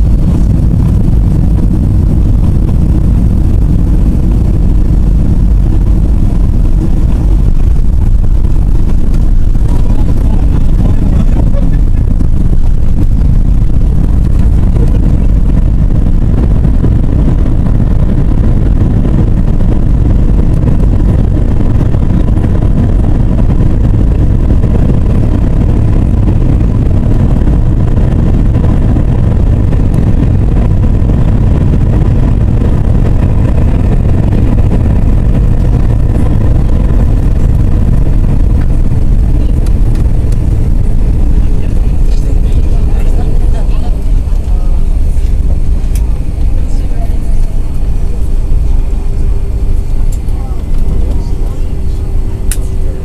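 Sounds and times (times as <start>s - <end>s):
faint steady whine: 0.0s - 53.0s
jet engine cabin rumble: 0.0s - 53.0s.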